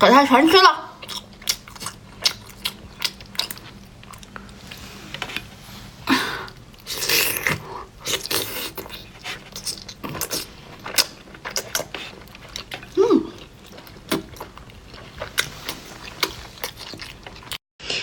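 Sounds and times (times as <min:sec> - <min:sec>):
chewing with sharp clicks: 0:01.0 - 0:04.6, 0:06.8 - 0:18.0.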